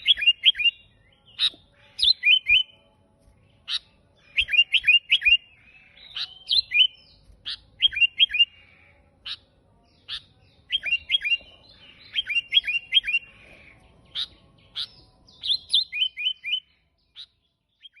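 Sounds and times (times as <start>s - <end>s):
bird singing sharp chirps: 0.0s - 2.9s, 3.5s - 18.0s.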